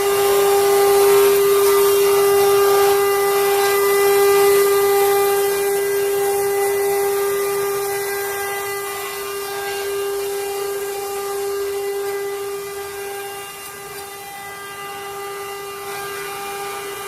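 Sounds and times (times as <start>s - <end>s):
router bit cutting wood: 0.0s - 17.0s
router spindle high whine: 0.0s - 17.0s.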